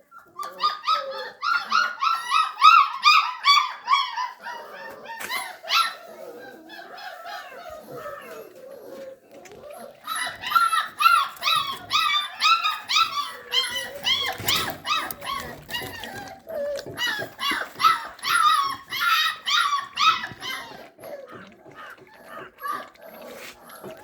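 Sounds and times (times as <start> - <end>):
puppies yelping and whining: 0.0 - 24.0.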